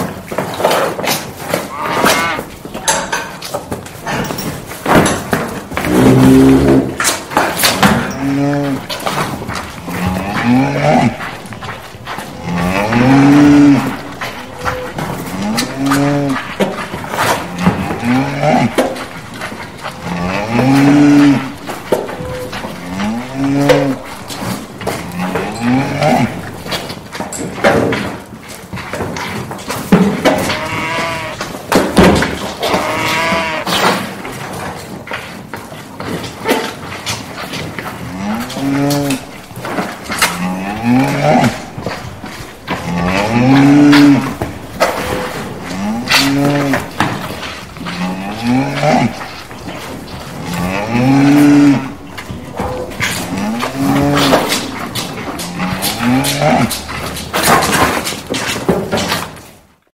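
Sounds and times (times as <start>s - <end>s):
cattle mooing: 1.5s - 3.3s, 5.0s - 28.3s, 29.9s - 34.5s, 37.8s - 58.5s.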